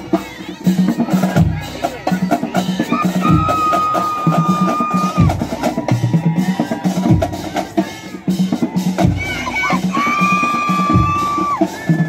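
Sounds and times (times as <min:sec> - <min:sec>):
snare drums: 0:00.0 - 0:12.0.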